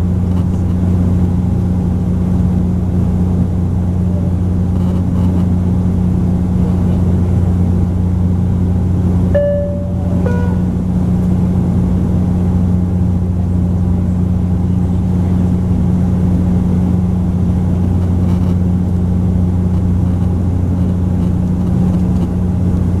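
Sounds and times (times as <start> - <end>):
turboprop engines droning: 0.0 - 23.0.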